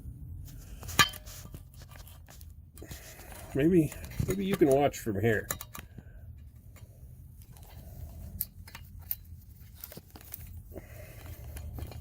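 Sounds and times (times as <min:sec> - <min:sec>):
camera being handled: 0:00.8 - 0:04.8, 0:05.4 - 0:12.0.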